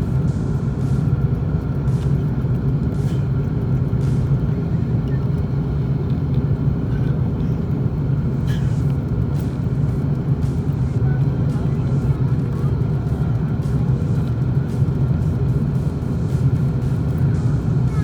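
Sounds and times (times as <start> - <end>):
faint steady whine: 0.0 - 18.0
vehicle rumbling in motion: 0.0 - 18.0.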